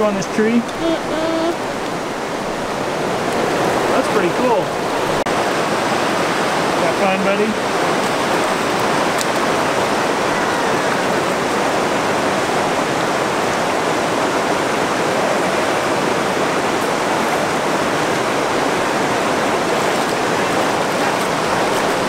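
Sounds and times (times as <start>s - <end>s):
river rushing over rocks: 0.0s - 22.0s.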